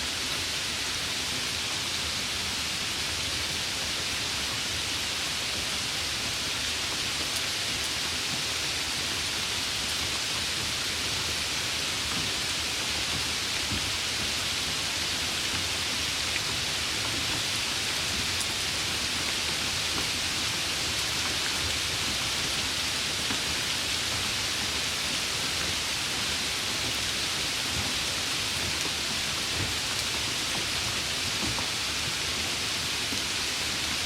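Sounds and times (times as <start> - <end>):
rain falling: 0.1 - 34.0.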